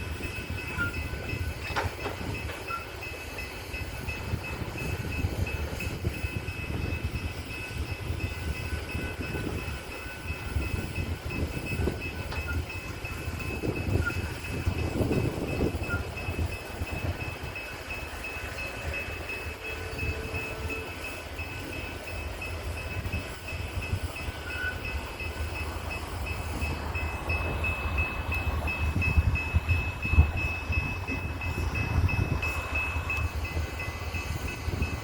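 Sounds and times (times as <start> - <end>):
freight train rumbling on tracks: 0.0 - 35.0
train cars knocking: 0.0 - 35.0.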